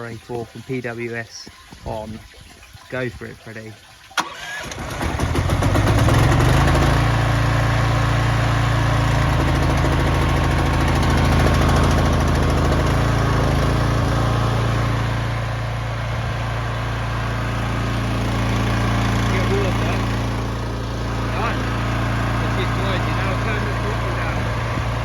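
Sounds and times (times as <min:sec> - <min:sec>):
pressure washer engine running: 0:04.2 - 0:25.0.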